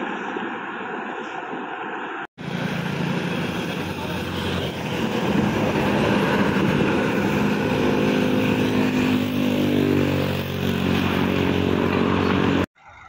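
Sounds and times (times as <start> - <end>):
highway traffic passing: 0.0 - 13.0
steady engine drone: 0.0 - 13.0.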